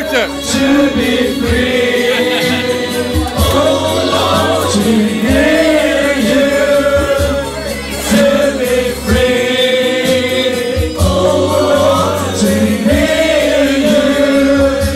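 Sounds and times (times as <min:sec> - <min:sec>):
group singing in unison: 0:00.0 - 0:14.9
music with steady bass line: 0:00.0 - 0:14.9.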